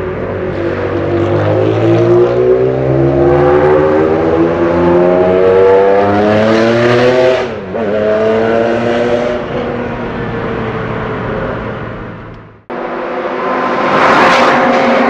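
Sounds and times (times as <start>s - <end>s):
sports car engine accelerating: 0.1s - 15.0s.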